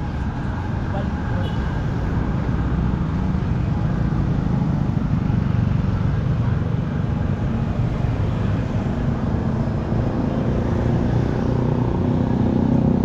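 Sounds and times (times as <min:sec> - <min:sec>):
motor vehicle engines humming: 0:00.0 - 0:13.0.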